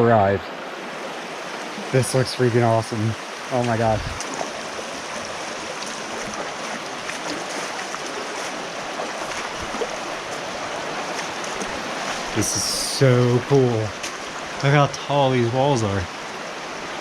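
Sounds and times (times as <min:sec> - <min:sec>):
creek water rushing over rocks: 0:00.0 - 0:17.0
small water splashes: 0:00.7 - 0:14.8.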